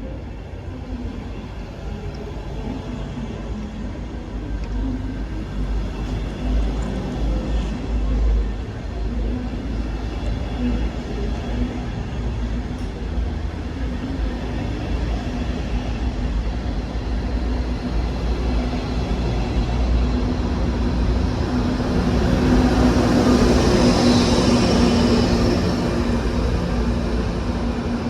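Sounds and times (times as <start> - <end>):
train rumbling with hum: 0.0 - 28.0.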